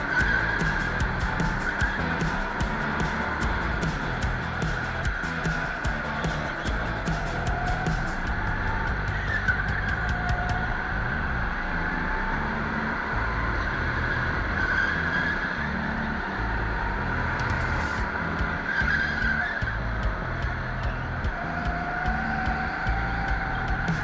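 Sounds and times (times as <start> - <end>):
go-kart motor revving: 0.0 - 24.0
tyre and track noise: 0.0 - 24.0.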